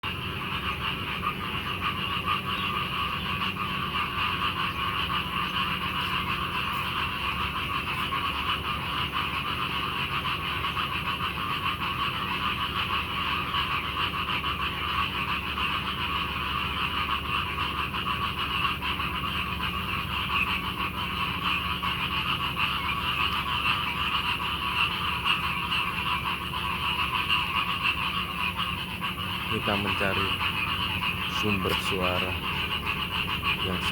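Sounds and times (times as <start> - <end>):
frogs croaking in chorus: 0.0 - 33.9.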